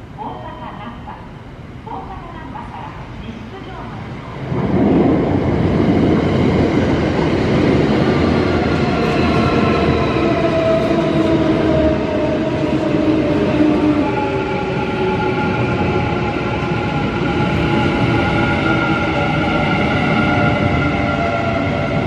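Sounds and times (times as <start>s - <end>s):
train wheels rumbling on rail: 2.5s - 22.0s.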